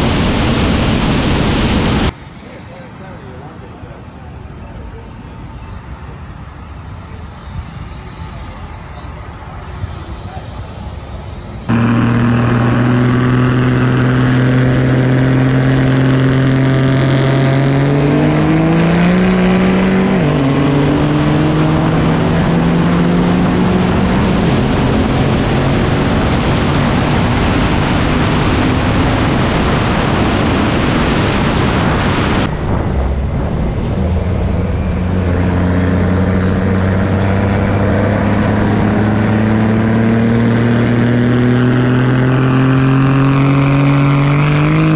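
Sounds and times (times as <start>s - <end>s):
truck engine accelerating: 0.0s - 44.9s.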